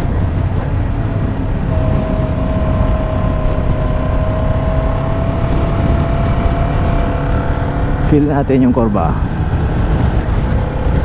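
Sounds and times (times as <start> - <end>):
heavy low rumble: 0.0 - 11.0
motorcycle engine running: 0.0 - 11.0.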